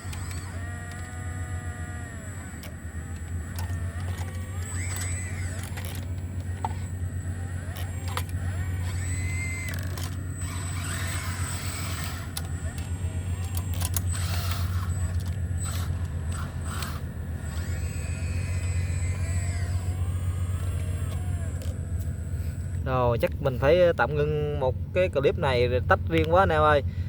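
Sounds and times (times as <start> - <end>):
high whines: 0.0 - 24.5
excavator diesel engine running: 0.0 - 27.0.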